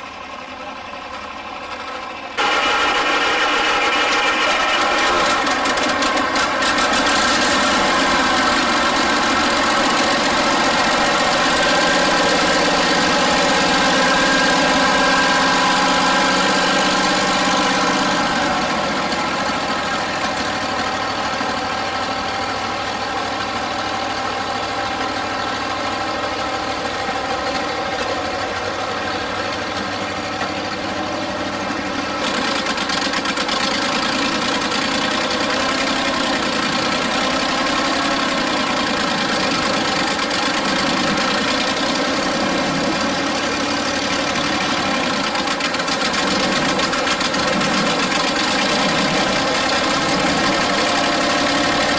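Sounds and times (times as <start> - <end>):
tractor and hay baler running: 0.0 - 51.9.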